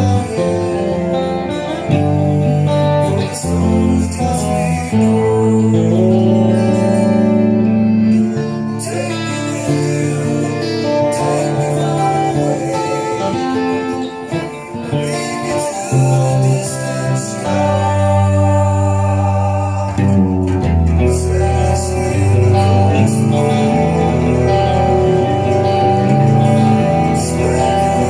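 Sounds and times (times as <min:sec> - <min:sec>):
fingerpicked guitar: 0:00.0 - 0:28.0.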